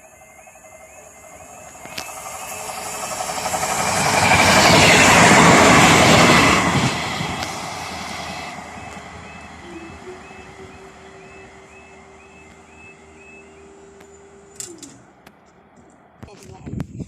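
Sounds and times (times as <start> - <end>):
train passing close by: 0.0 - 16.9.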